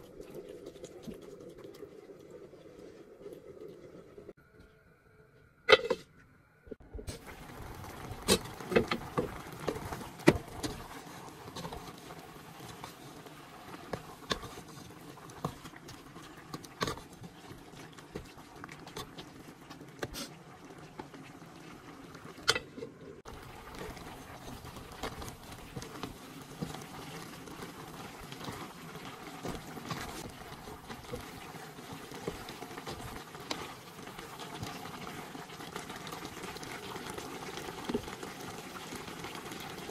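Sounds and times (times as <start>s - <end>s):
pork sizzling in gravy: 7.1s - 39.9s.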